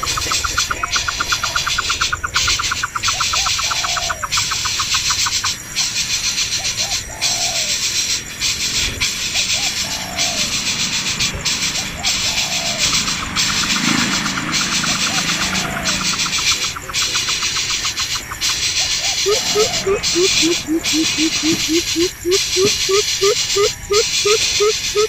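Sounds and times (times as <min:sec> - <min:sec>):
rapid even ticks: 0:00.0 - 0:06.8, 0:07.7 - 0:25.0
pulsing insect hiss: 0:00.0 - 0:25.0
short looping animal calls: 0:00.0 - 0:25.0.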